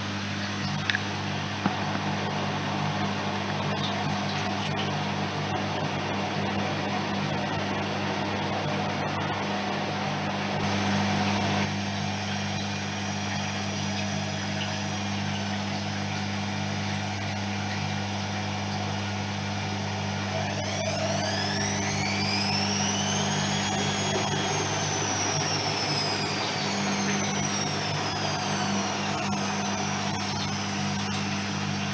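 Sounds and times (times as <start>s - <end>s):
faint high whine: 0.0s - 31.9s
washing machine hum: 0.0s - 31.9s.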